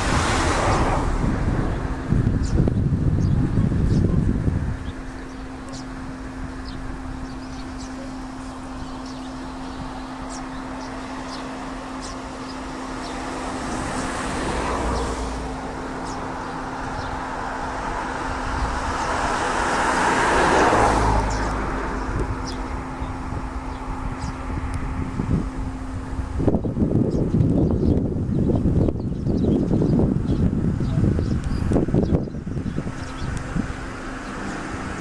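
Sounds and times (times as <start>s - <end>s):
steady low hum: 0.0s - 35.0s
vehicles passing: 0.0s - 35.0s.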